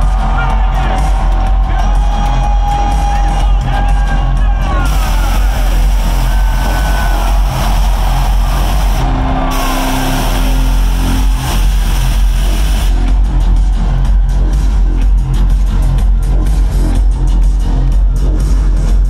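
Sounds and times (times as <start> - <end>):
loud music with low beat: 0.0 - 19.0.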